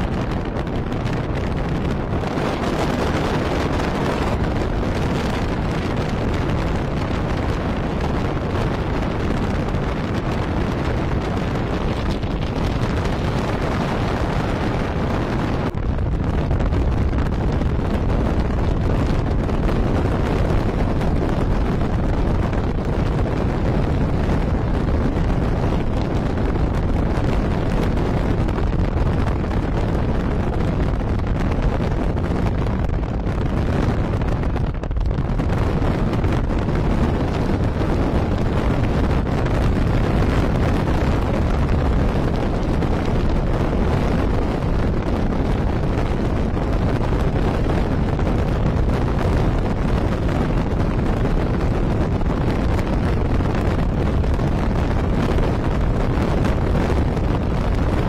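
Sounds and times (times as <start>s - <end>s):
vehicle rumble and road noise: 0.0s - 58.0s
wind buffeting microphone: 0.0s - 58.0s.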